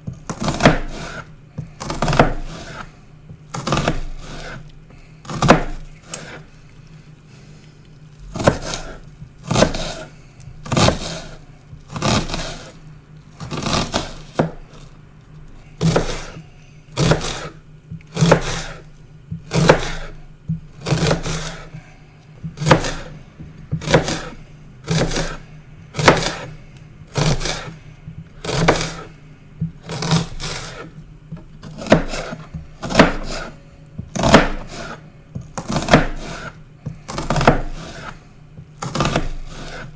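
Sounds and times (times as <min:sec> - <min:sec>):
knife chopping onion on board: 0:00.0 - 0:06.5, 0:08.3 - 0:12.8, 0:13.4 - 0:14.9, 0:15.8 - 0:39.9.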